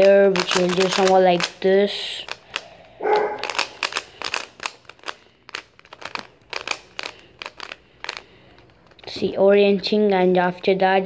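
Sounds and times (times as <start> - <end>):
puzzle cube plastic clicks: 0.0 - 9.2.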